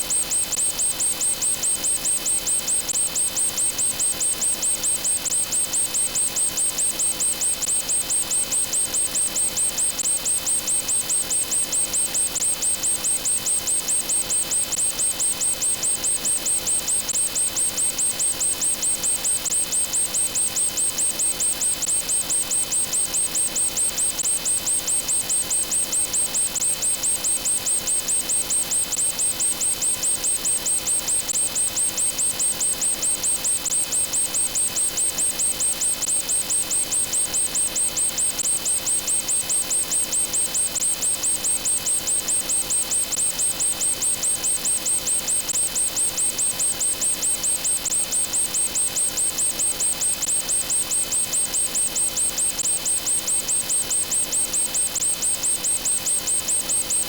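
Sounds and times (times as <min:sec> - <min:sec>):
electronic ticks: 0:00.1 - 0:57.0.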